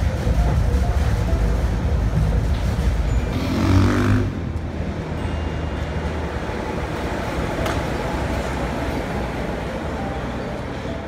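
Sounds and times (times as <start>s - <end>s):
monorail train passing overhead: 0.0s - 11.0s
street traffic: 0.0s - 11.0s.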